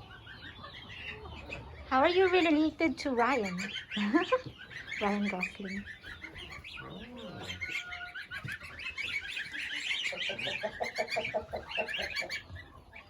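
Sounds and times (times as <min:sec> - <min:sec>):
low clucking calls: 0:00.0 - 0:13.0
poultry chirping and peeping: 0:00.0 - 0:13.0.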